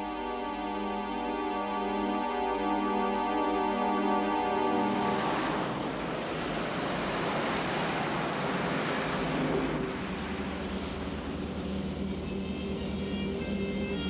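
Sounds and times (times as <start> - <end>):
cars driving past: 0.0 - 14.0.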